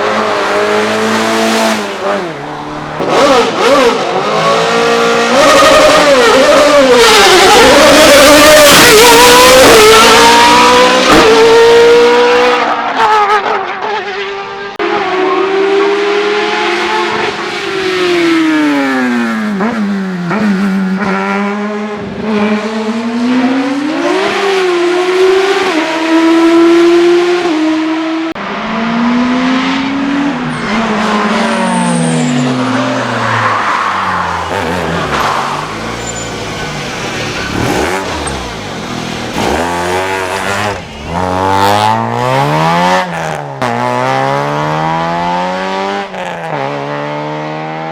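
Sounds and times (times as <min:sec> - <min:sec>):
racing car engine revving: 0:00.0 - 0:47.9.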